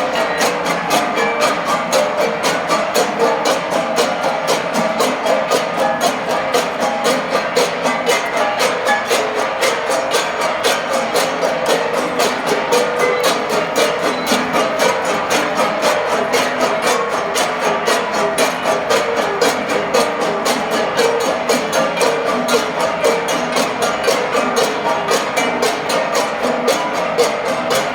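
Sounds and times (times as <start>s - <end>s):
flat gongs beaten in fast rhythm: 0.0s - 27.9s.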